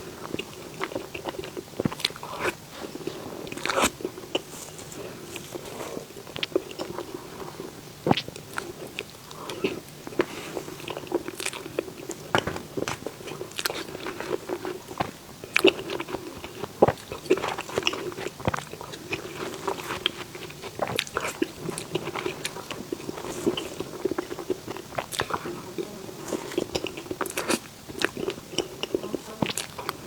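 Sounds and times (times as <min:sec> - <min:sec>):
person chewing with wet mouth clicks: 0:00.2 - 0:02.6, 0:08.1 - 0:30.0.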